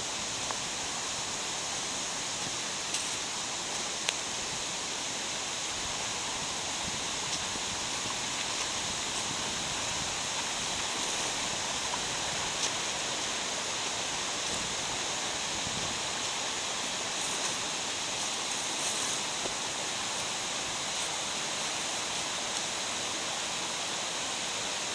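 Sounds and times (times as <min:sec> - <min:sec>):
stream rushing over rocks: 0:00.0 - 0:24.9.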